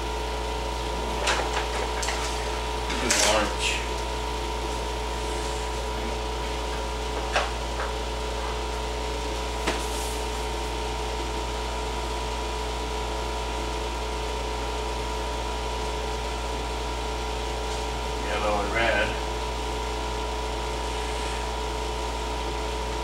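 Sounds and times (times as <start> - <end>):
window air conditioner humming: 0.0 - 23.0.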